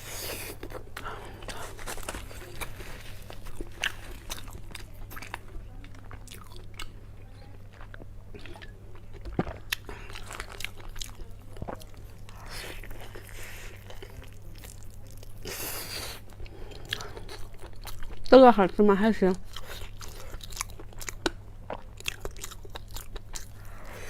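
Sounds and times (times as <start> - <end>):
person chewing food: 0.0 - 18.3, 19.4 - 24.0.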